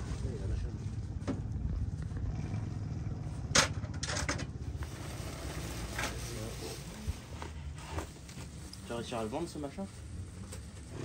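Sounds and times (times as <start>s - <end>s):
motorbike engines rumbling: 0.0s - 11.0s.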